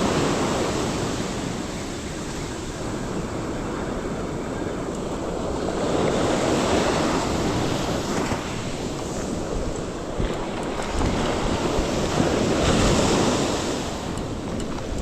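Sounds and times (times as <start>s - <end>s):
ocean surf washing onto beach: 0.0s - 15.0s
wind on microphone: 0.0s - 15.0s.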